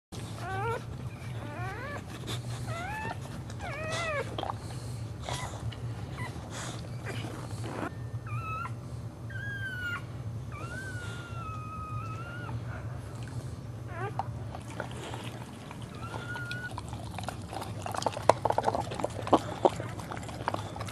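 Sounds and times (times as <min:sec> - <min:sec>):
dog whining: 0:00.2 - 0:04.6, 0:05.2 - 0:13.2, 0:13.8 - 0:20.9
low steady hum: 0:00.2 - 0:20.9.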